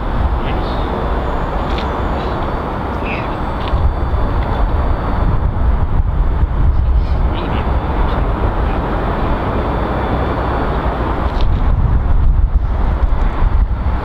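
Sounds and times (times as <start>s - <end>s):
heavy low rumble: 0.0s - 14.0s
steam locomotive exhaust beats: 0.0s - 14.0s.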